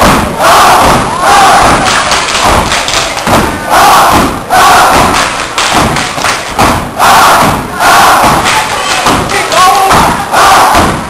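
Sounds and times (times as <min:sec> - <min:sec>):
people shouting: 0:00.0 - 0:11.0
rhythmic clapping: 0:00.0 - 0:11.0
rhythmic stomps on stage floor: 0:00.0 - 0:11.0.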